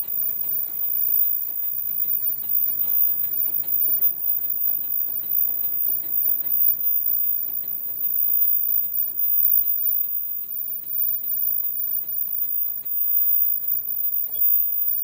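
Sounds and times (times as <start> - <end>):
machine humming and ticking: 0.0 - 15.0.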